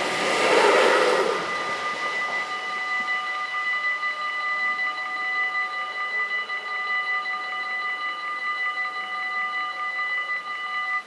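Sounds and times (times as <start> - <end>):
level crossing bells ringing: 0.0 - 11.0.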